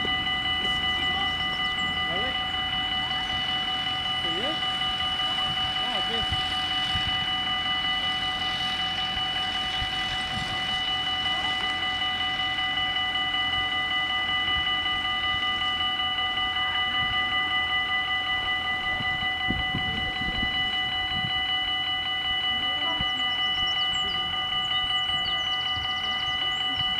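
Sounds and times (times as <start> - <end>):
level crossing warning bells: 0.0 - 26.9.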